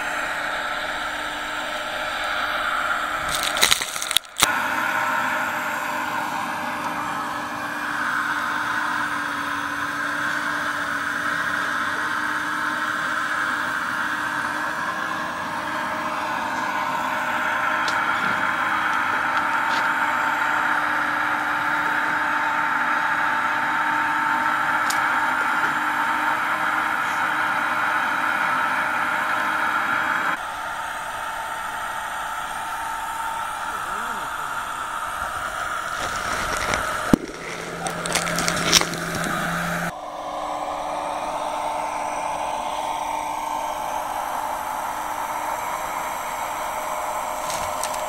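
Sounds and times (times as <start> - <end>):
model excavator whirring: 0.0 - 48.0.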